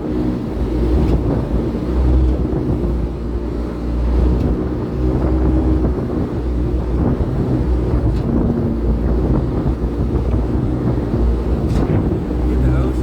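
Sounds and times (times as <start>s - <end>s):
speedboat engine drone: 0.0s - 13.0s
wind buffeting microphone: 0.0s - 13.0s.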